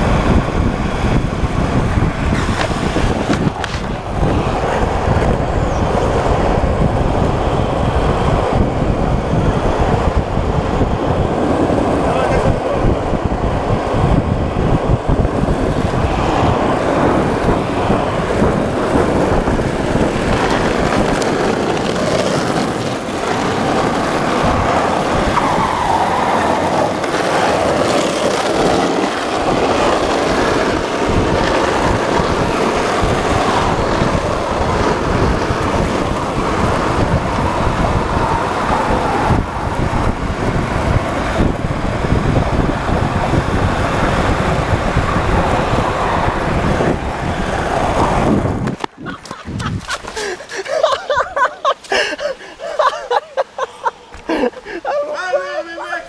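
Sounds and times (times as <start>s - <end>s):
board wheels rolling on asphalt: 0.0s - 56.0s.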